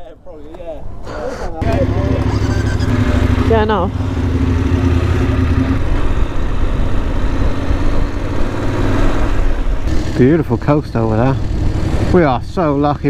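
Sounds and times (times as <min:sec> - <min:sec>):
motorcycle engine running: 0:01.6 - 0:13.0.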